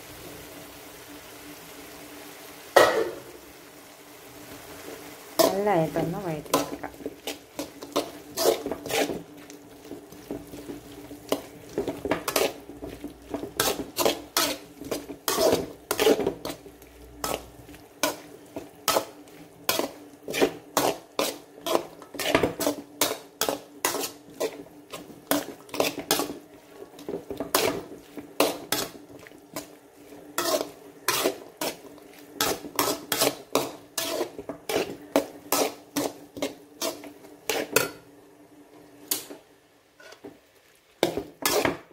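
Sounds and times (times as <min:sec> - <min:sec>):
food sauteing in oil: 0:00.0 - 0:41.9
utensil scraping a pan: 0:05.4 - 0:38.0, 0:41.0 - 0:41.9.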